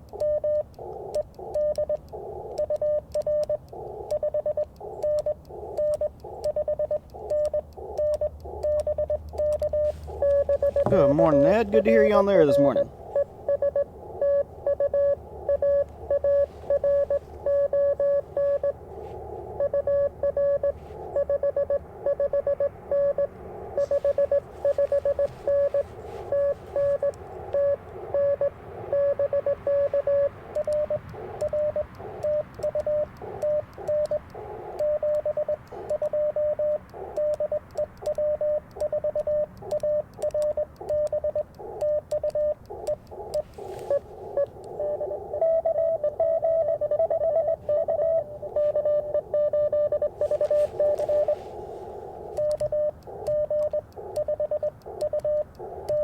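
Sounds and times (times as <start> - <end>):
morse code tone: 0.0 - 56.0
receiver hiss: 0.0 - 56.0.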